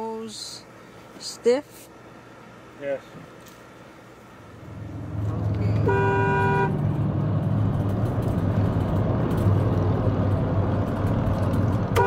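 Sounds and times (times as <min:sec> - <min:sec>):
vehicle cabin engine and road noise: 0:00.0 - 0:12.0.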